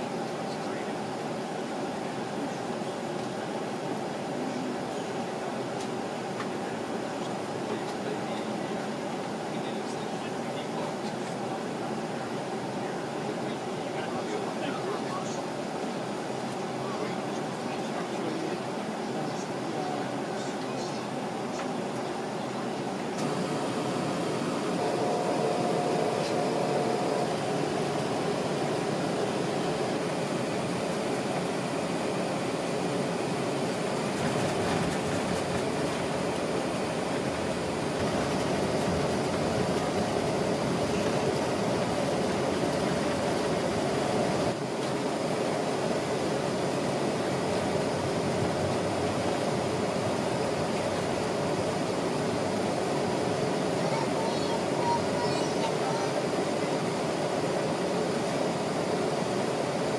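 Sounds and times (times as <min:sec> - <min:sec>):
cabin air conditioning: 0:00.0 - 0:59.9
faint steady whine: 0:00.0 - 0:59.9
jet engine cabin hum: 0:00.0 - 0:59.9.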